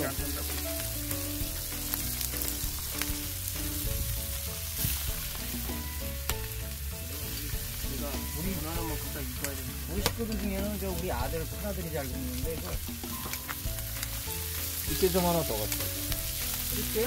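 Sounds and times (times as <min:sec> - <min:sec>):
seafood sizzling on a griddle: 0:00.0 - 0:17.0
simple background music melody: 0:00.0 - 0:17.0.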